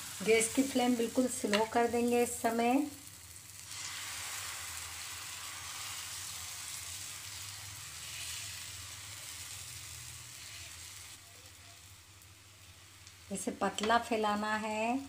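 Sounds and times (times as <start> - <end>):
batter sizzling on a griddle: 0.0 - 15.0.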